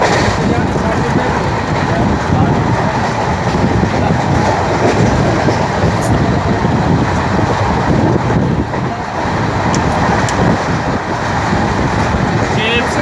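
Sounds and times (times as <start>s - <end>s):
passenger train rushing: 0.0s - 13.0s.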